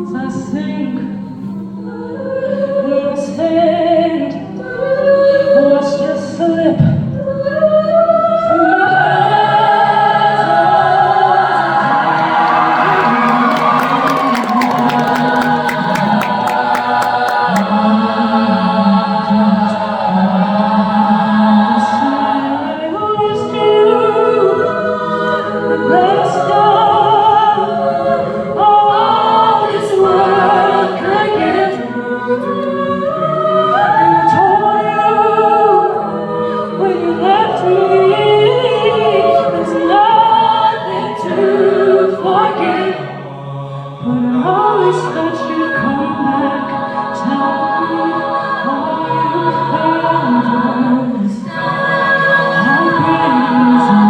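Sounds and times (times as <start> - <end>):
vocal group singing in harmony: 0.0 - 54.0.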